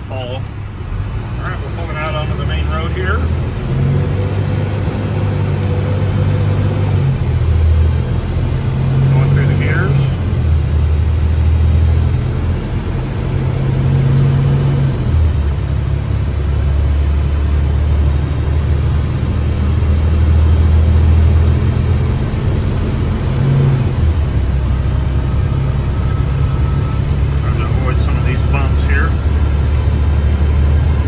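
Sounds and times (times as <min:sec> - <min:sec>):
automatic transmission shifting gears: 0:00.0 - 0:31.0
diesel truck engine accelerating: 0:00.0 - 0:31.0.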